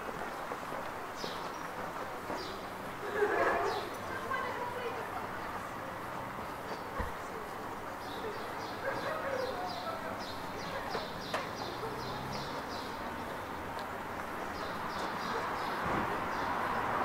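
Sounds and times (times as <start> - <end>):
street background noise: 0.0 - 17.0.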